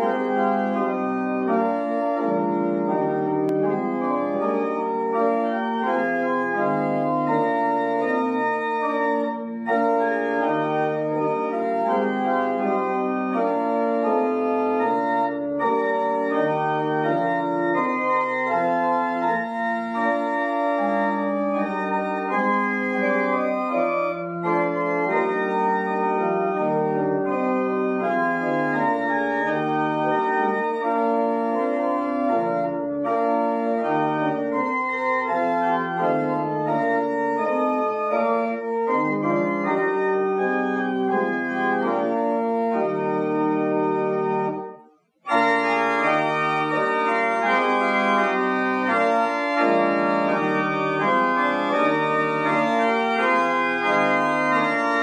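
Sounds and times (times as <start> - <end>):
organ playing hymn chords: 0.0 - 55.0.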